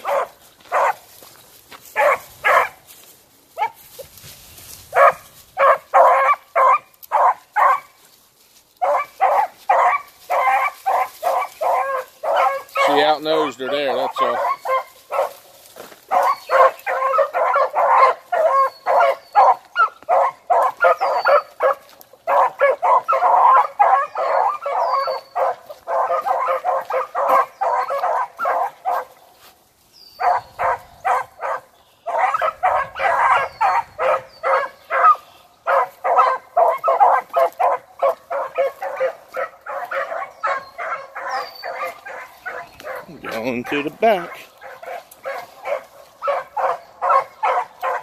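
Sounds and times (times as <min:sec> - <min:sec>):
hounds barking: 0:00.0 - 0:02.9, 0:03.5 - 0:04.1, 0:04.8 - 0:08.1, 0:08.8 - 0:48.0.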